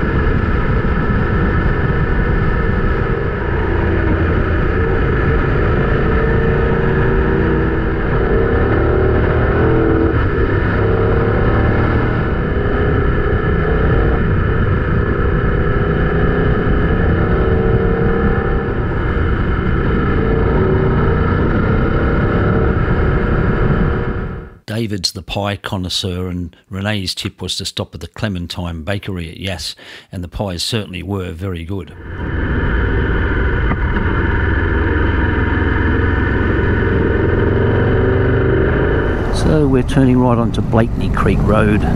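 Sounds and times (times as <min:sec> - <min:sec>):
motorcycle engine running: 0:00.0 - 0:24.6, 0:32.0 - 0:41.9
wind rush on microphone: 0:00.0 - 0:24.6, 0:32.0 - 0:41.9.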